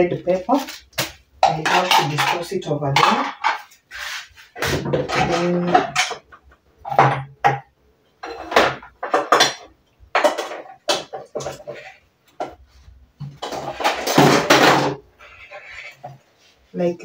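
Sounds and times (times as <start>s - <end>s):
dishes and cups clattering: 0.8s - 3.8s, 4.6s - 12.6s, 13.2s - 16.2s.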